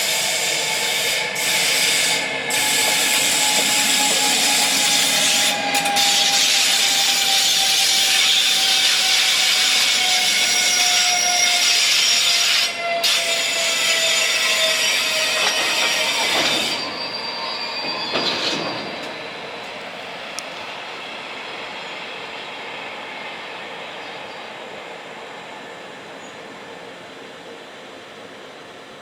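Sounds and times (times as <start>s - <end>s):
train wheels squealing on rails: 0.0s - 28.0s.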